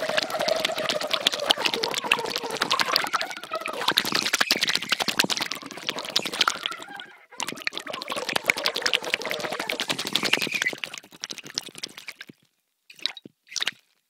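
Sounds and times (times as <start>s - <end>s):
air bubbling underwater: 0.0s - 12.3s.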